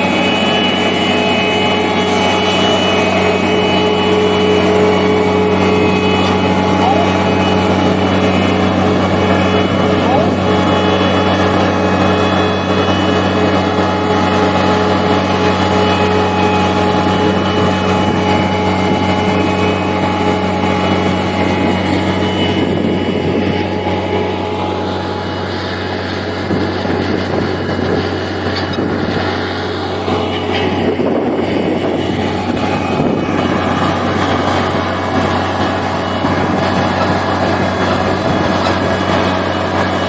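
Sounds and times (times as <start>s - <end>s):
heavy machine engine running: 0.0s - 40.0s.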